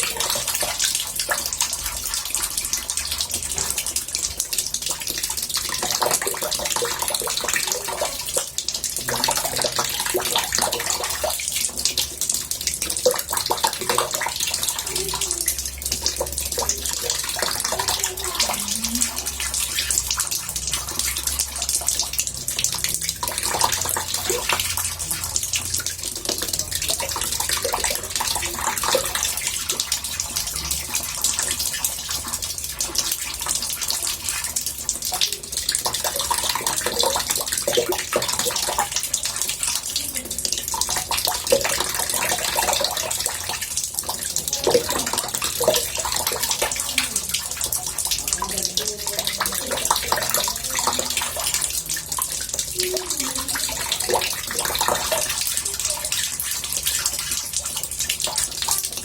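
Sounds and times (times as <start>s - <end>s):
water running into bathtub: 0.0s - 59.0s.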